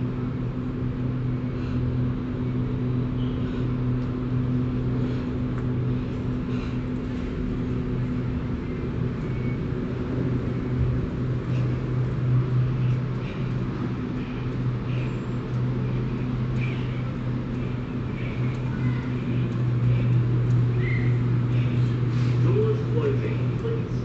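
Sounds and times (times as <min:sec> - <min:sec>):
electric train humming: 0:00.0 - 0:24.0.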